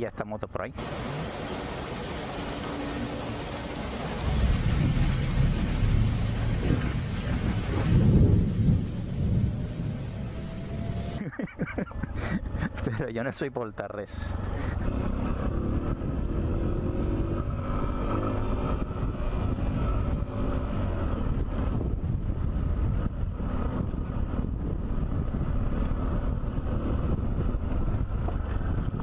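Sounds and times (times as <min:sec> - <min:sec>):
ride rumble: 0:00.8 - 0:29.0.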